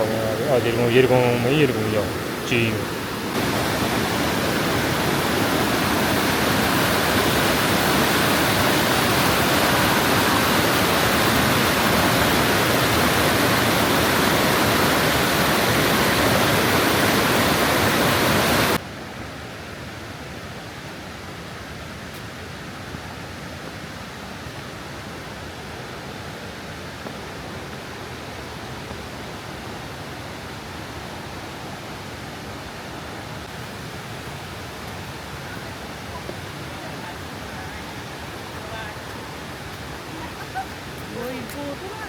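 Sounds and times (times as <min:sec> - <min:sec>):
waterfall rushing: 0:00.0 - 0:18.8, 0:25.0 - 0:42.0.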